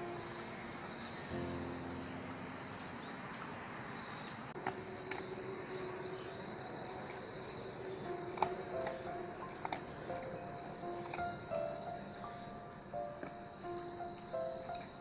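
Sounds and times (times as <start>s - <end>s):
high cricket-like chirping: 0.0s - 15.0s
soft background music: 0.0s - 15.0s.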